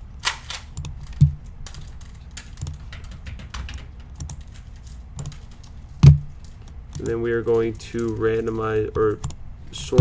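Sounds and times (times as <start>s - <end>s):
keyboard keys clicking: 0.5s - 9.4s.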